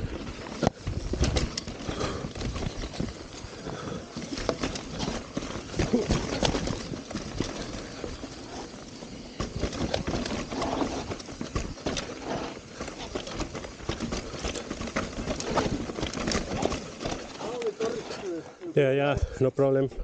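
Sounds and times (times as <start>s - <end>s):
bike clicks and rattles: 0.0s - 18.7s
bike tyres crunching on dirt: 0.0s - 19.1s.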